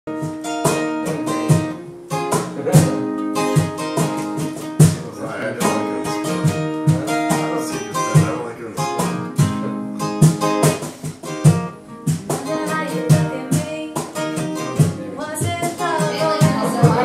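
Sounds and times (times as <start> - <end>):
acoustic guitar playing: 0.1 - 17.0.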